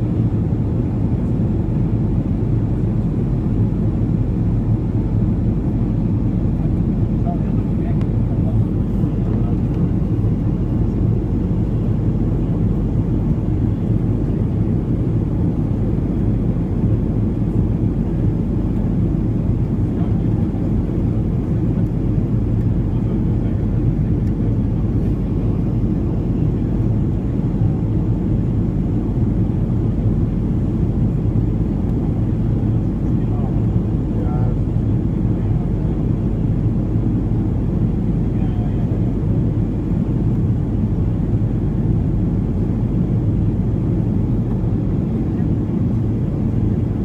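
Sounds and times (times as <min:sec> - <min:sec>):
airliner engines rumbling: 0:00.0 - 0:47.0.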